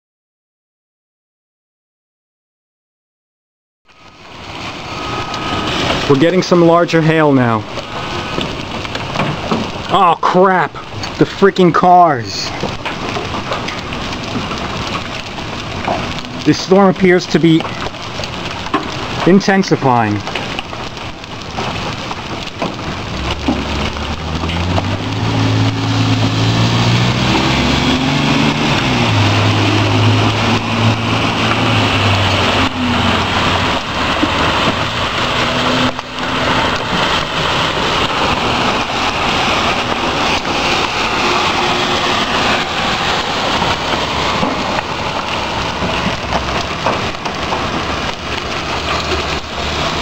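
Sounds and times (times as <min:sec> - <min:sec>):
heavy rain and hail: 0:03.9 - 0:50.0.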